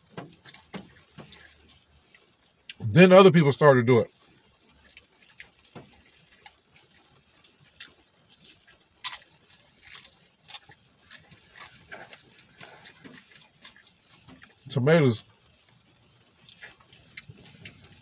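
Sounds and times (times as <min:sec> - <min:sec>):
person chewing with wet smacks: 0:00.0 - 0:02.8, 0:04.1 - 0:18.0.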